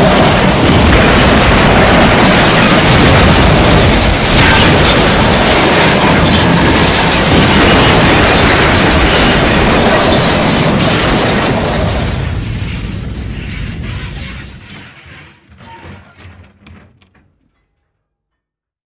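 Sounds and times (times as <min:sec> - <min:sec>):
metal grinding crash: 0:00.0 - 0:17.9.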